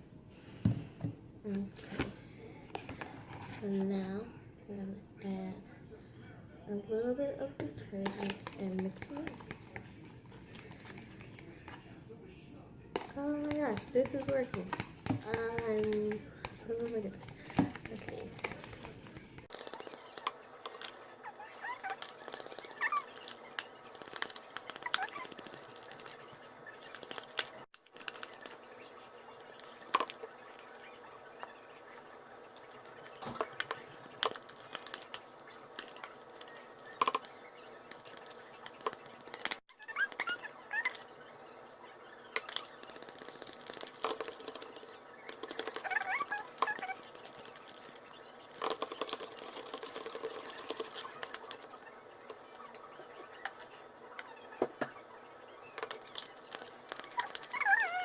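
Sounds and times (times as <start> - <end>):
slime squelching in a bowl: 0.4 - 5.7, 6.7 - 12.1, 12.9 - 58.0.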